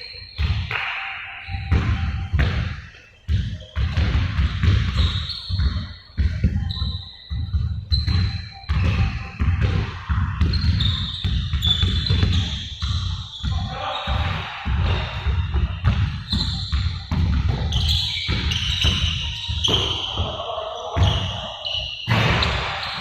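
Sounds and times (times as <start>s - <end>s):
basketballs bouncing on hard floor: 1.5s - 20.4s, 21.0s - 21.4s, 22.0s - 23.0s.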